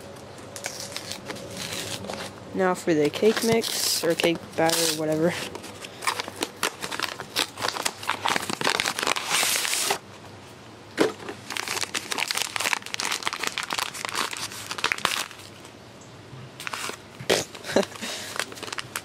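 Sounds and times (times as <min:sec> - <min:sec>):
bag crinkling and rustling: 0:00.5 - 0:02.4, 0:03.0 - 0:10.0, 0:11.0 - 0:15.7, 0:16.6 - 0:19.0.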